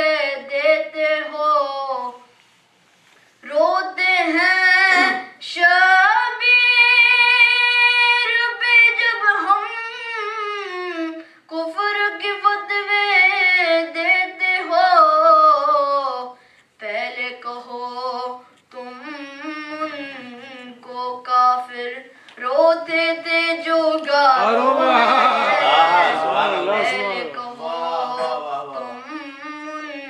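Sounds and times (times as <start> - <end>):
boy singing unaccompanied: 0.0 - 2.3, 3.4 - 30.0.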